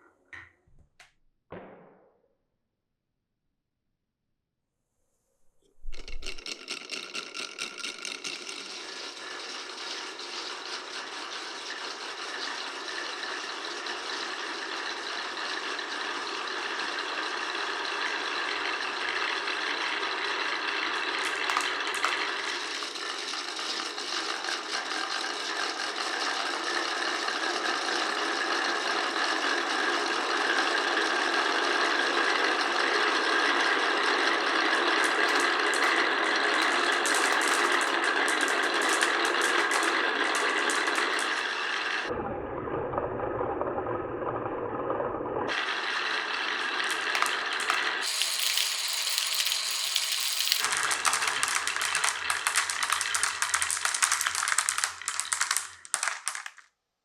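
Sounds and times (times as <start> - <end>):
marbles rattling on wooden run: 5.9 - 42.1, 45.5 - 56.7.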